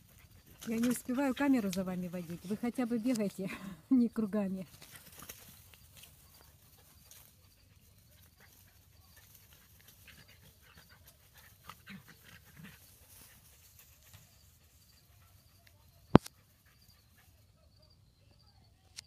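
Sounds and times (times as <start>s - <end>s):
dogs scampering on grass: 0.0s - 3.5s, 4.3s - 17.4s
dogs panting: 0.0s - 3.9s, 4.7s - 17.7s.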